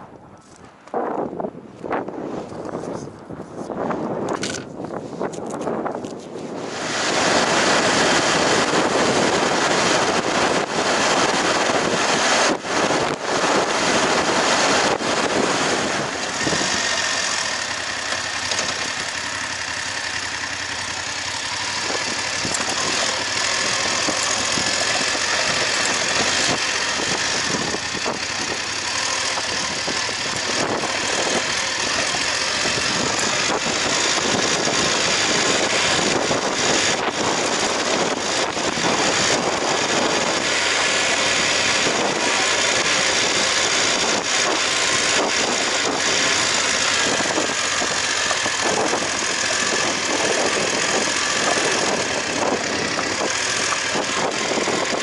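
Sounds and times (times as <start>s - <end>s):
motorcycle engine riding: 0.0s - 55.0s
wind rush on microphone: 0.0s - 55.0s.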